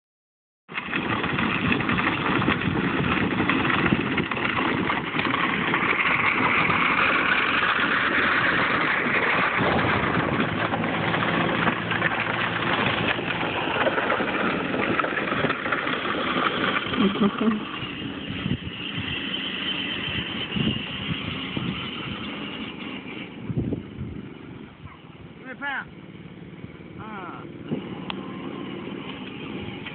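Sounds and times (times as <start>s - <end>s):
atv engine running: 0.7s - 29.9s.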